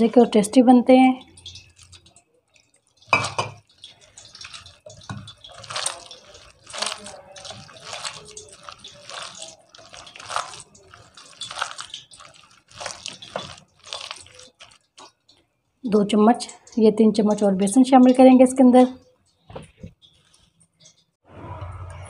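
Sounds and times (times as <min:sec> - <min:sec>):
wet batter squelching: 0:00.0 - 0:18.3, 0:19.0 - 0:21.1.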